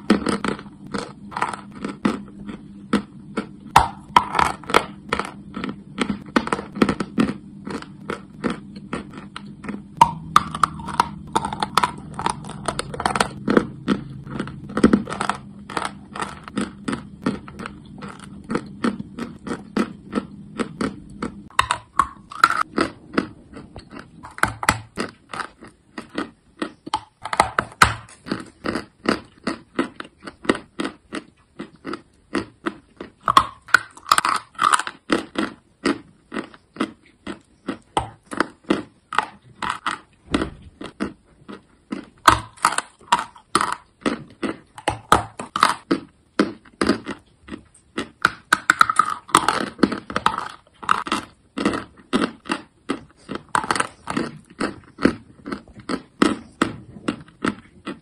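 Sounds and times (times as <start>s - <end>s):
person chewing crunchy chalk: 0.0s - 58.0s.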